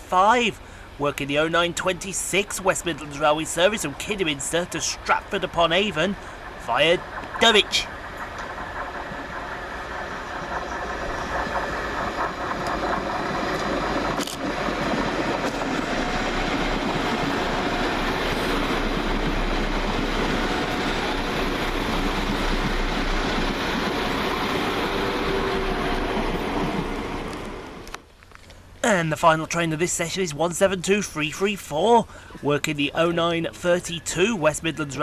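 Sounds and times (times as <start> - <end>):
diesel train engines and wheels: 0.0 - 35.0.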